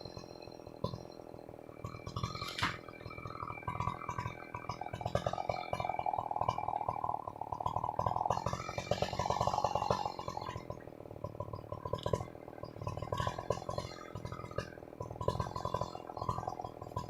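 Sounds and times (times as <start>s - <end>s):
chainsaw idling: 0.0s - 17.0s.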